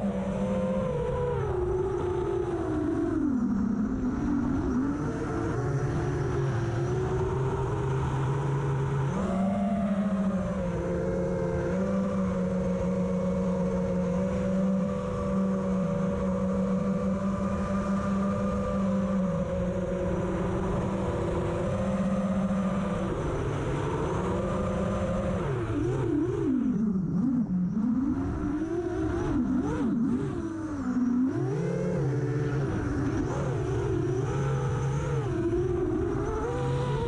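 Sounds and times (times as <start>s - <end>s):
drone motors whining: 0.0s - 37.0s.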